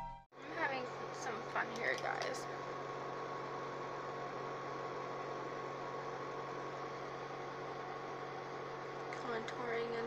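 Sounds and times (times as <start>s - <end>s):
background hum and hiss: 0.4s - 10.0s.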